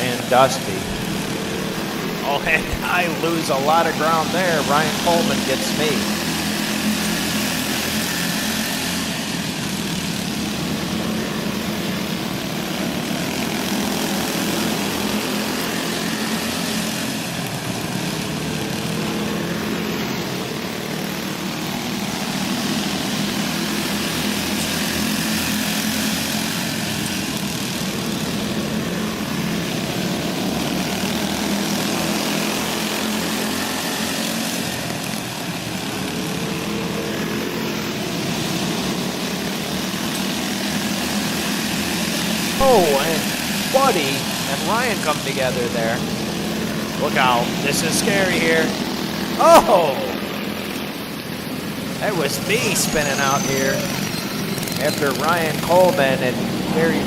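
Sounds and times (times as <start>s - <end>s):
go-kart engines buzzing: 0.0s - 57.0s.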